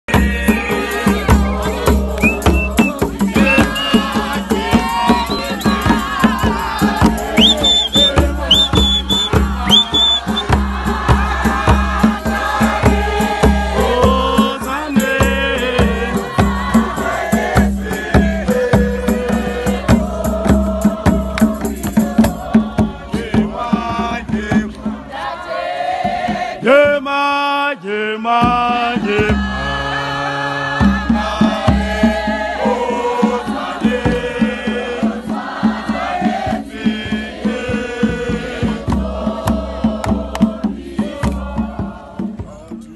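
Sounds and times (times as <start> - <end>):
hand drums beating: 0.1 - 25.1, 28.3 - 29.8, 30.7 - 42.9
crowd singing a hymn: 0.1 - 42.9.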